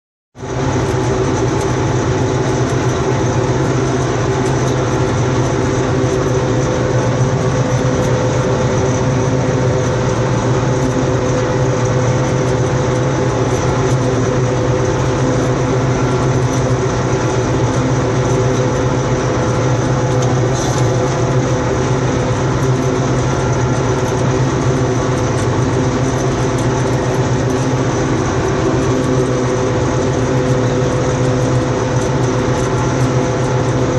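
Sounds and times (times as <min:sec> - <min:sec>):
combine harvester running: 0:00.4 - 0:33.9.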